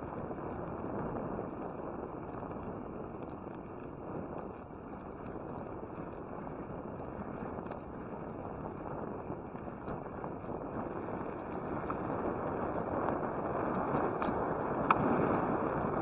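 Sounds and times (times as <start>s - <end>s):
light ticks: 0.0s - 16.0s
tyre and wind noise: 0.0s - 16.0s.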